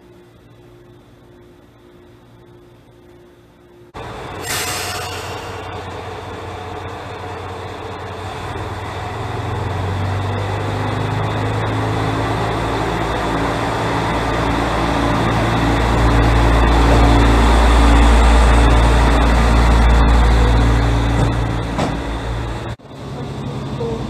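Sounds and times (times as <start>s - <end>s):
diesel railcar engine accelerating: 0.0s - 24.0s.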